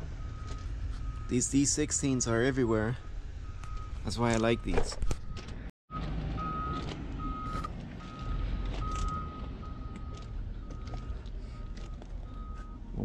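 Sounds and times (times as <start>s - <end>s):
vehicle backup alarm beeps: 0.0s - 13.0s.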